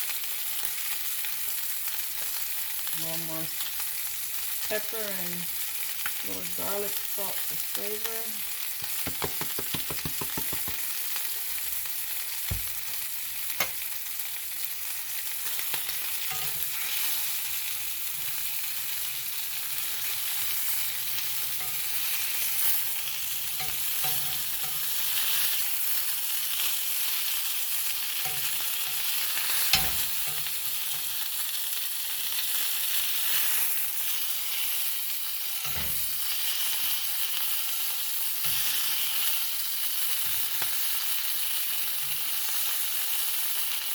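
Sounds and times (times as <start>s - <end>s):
chicken sizzling in oil: 0.0s - 43.9s.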